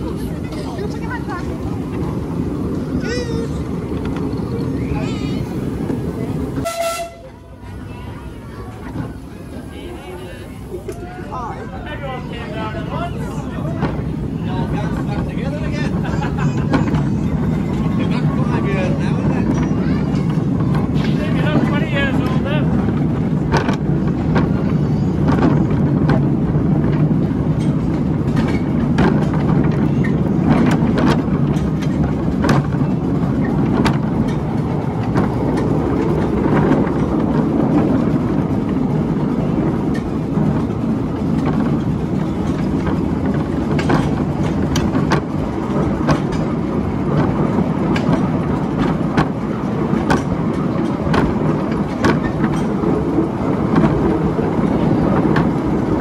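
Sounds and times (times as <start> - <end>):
train wheels rumbling: 0.0 - 56.0
wheels clicking over rail joints: 0.0 - 56.0.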